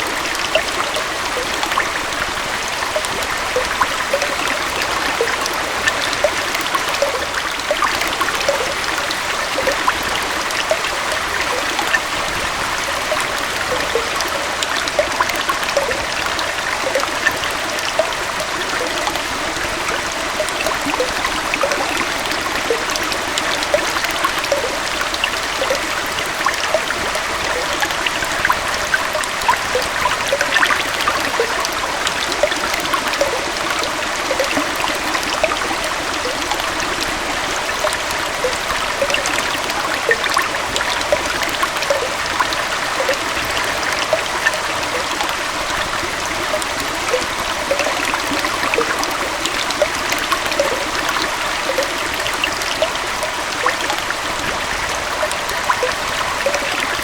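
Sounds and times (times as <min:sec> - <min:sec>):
waterfall and stream running: 0:00.0 - 0:57.0.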